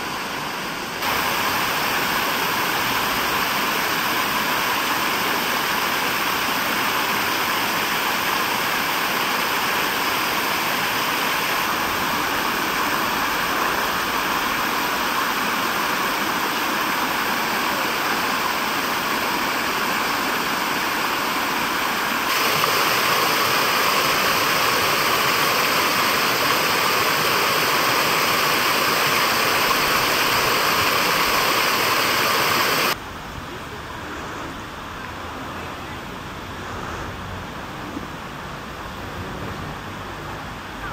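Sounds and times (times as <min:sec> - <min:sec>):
fountain water rushing: 0:00.0 - 0:40.9.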